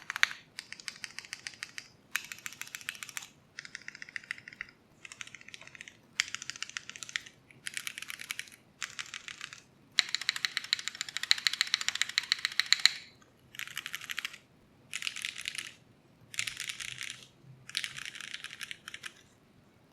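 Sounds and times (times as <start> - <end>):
mechanical keyboard typing: 0.0 - 19.3.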